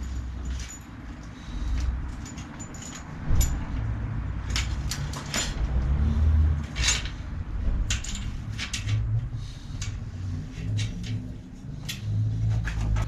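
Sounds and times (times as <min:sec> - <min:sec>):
metallic clicks and clinks: 0:00.0 - 0:13.0.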